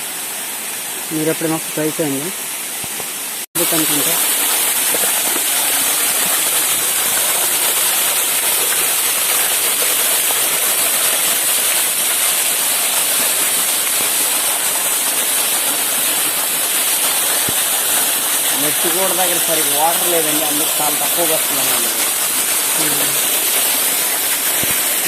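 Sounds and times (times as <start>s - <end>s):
waterfall splashing: 0.0s - 25.0s.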